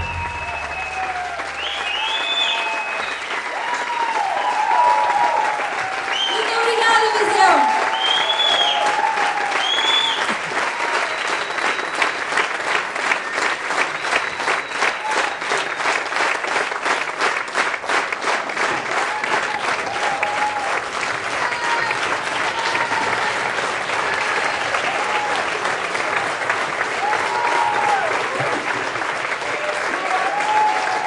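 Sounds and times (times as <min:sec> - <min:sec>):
people cheering: 0:00.0 - 0:16.9, 0:18.2 - 0:31.0
audience applauding: 0:00.0 - 0:31.0.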